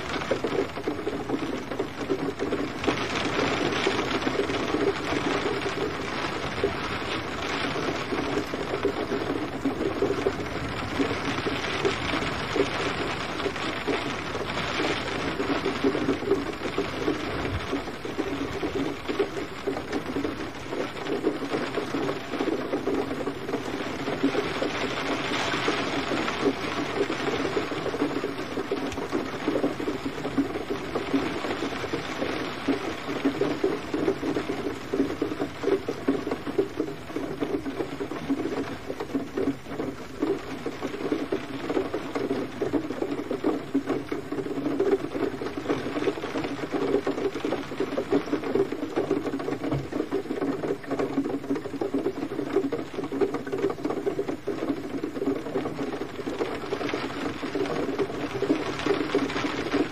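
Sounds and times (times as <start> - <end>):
gentle rain patter: 0.0 - 59.9.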